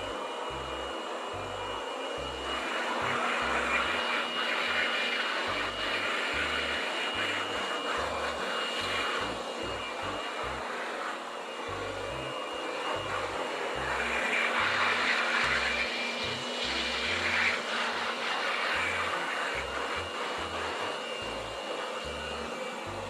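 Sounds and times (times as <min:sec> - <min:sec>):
electric blower running: 0:00.0 - 0:23.0.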